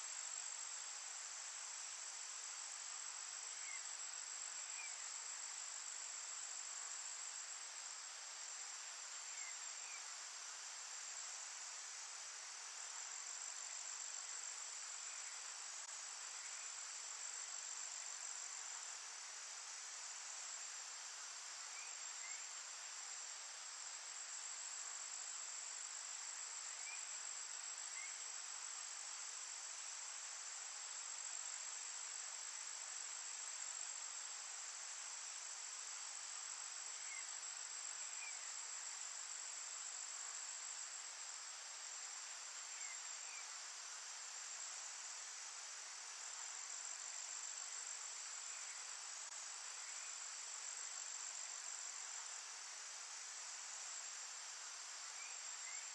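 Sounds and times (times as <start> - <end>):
crickets trilling: 0.0 - 55.9
soft forest hiss: 0.0 - 55.9.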